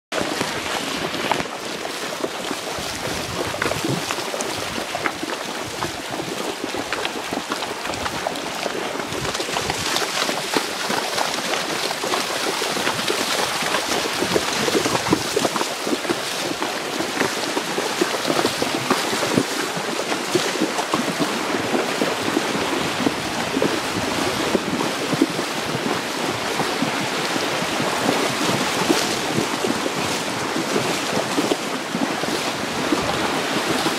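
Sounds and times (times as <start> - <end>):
horses splashing through water: 0.1 - 33.9
river rushing: 0.2 - 33.9.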